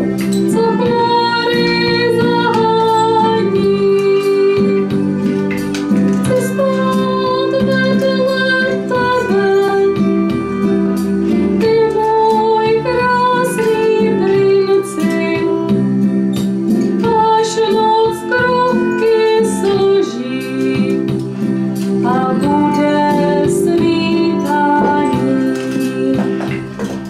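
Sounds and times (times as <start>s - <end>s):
woman singing: 0.4s - 5.1s, 6.0s - 10.6s, 11.2s - 16.0s, 17.0s - 21.2s, 22.0s - 26.6s.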